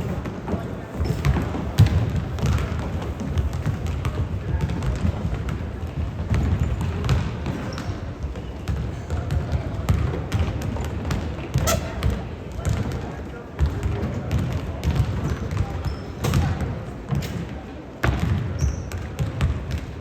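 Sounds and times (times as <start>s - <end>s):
basketball bouncing on gym floor: 0.5s - 20.0s.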